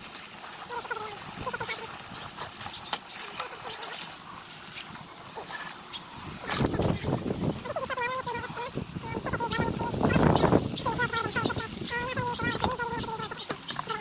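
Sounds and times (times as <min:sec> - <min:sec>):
hose spray splashing on metal: 0:00.0 - 0:14.0.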